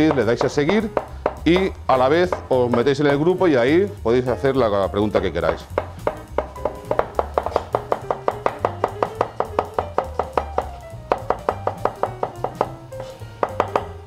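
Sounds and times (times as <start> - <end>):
background music with pulsing bass: 0.0 - 14.0.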